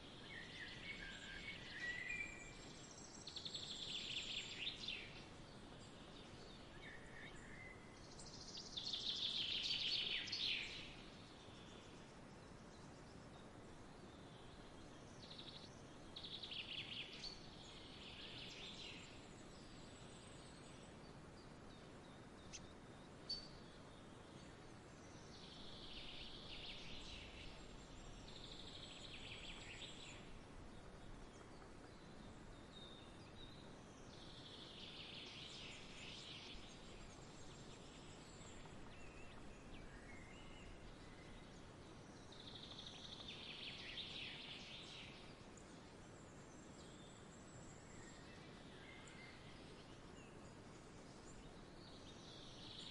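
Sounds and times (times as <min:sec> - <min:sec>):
faint outdoor hiss: 0:00.0 - 0:52.9
songbirds singing: 0:00.0 - 0:52.9.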